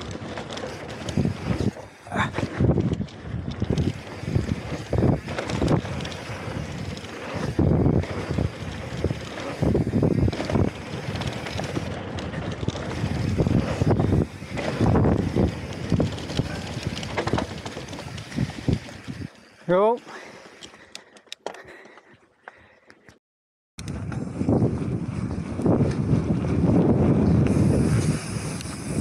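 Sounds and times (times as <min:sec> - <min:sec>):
wind buffeting microphone: 0:00.0 - 0:19.3, 0:23.8 - 0:29.0
bike tyres on loose gravel: 0:00.0 - 0:21.9, 0:23.9 - 0:29.0.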